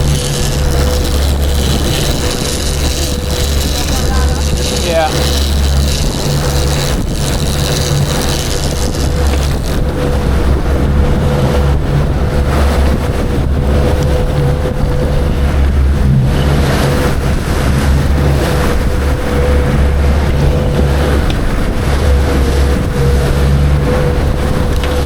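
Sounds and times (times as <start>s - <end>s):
boat motor whining: 0.0s - 25.0s
water rushing: 0.0s - 25.0s.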